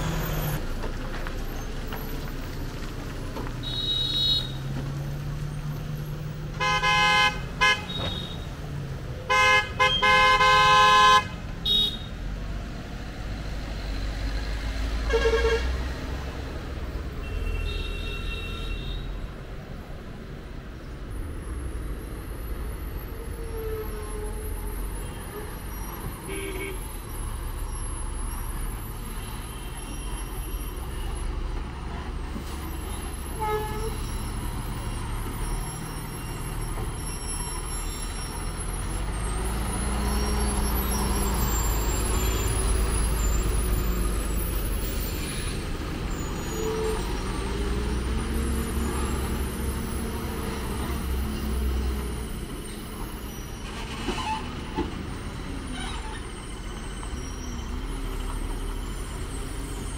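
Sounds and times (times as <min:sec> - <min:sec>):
diesel lorry engines rumbling: 0:00.0 - 0:59.9.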